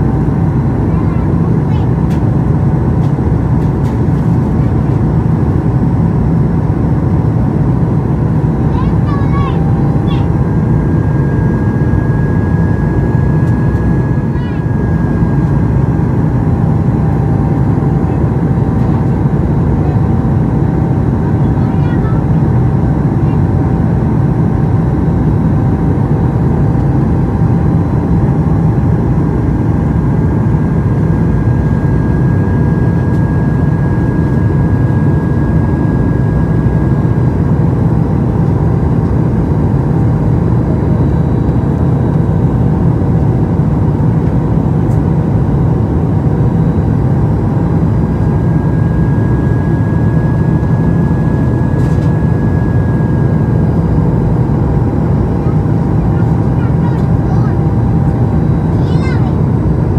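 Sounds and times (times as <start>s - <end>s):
airliner cabin roar: 0.0s - 59.9s
faint engine tones: 0.0s - 59.9s.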